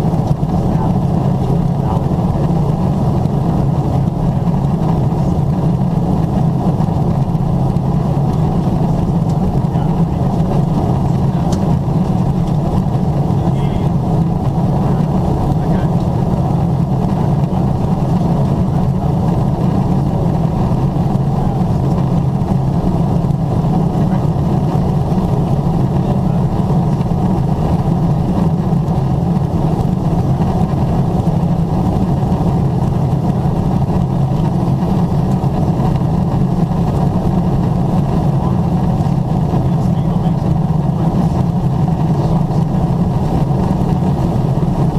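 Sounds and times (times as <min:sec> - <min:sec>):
airplane cabin drone: 0:00.0 - 0:44.9.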